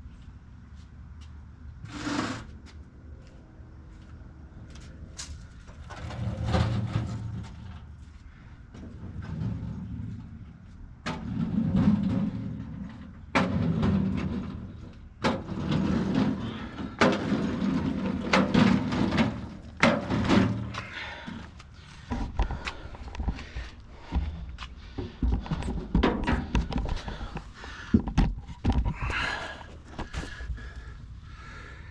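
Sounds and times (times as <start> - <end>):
low rumbling and rustling: 0.0 - 31.9
knocks and clunks of heavy parts: 5.2 - 30.9.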